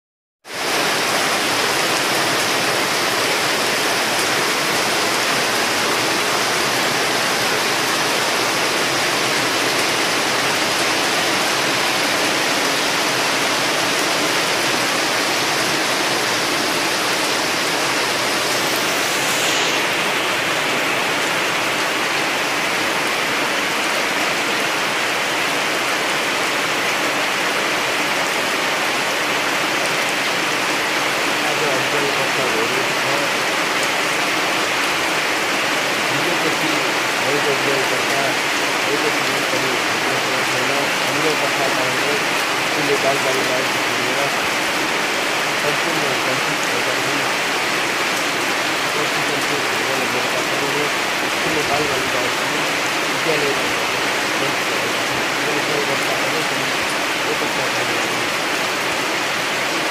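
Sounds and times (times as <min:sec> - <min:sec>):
heavy rain falling: 0:00.4 - 0:59.9
water pouring off roof: 0:00.5 - 0:59.9.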